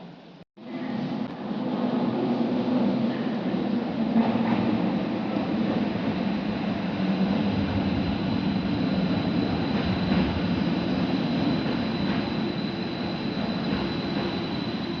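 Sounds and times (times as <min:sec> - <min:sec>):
train rumbling through station: 0:00.0 - 0:15.0.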